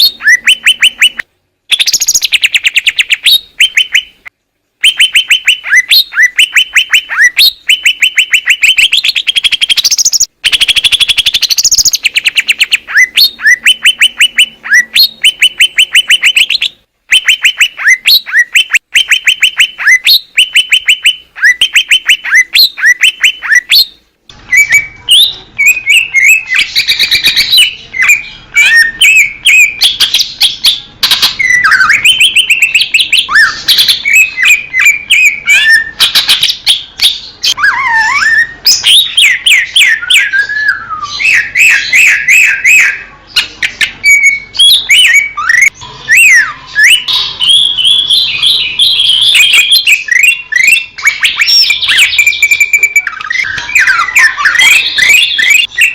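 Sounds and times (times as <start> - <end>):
bird singing: 0.0 - 55.9.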